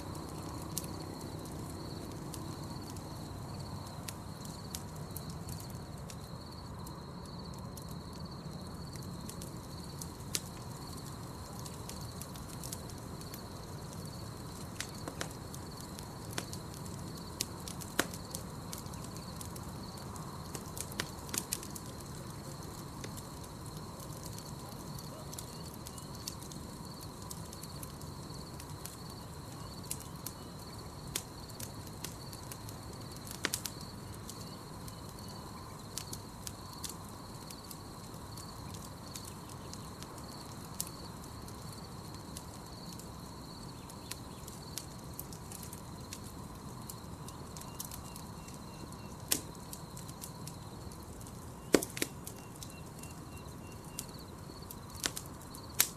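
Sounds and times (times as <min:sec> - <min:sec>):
campfire crackling: 0:00.0 - 0:55.9
fire hissing: 0:00.0 - 0:55.9.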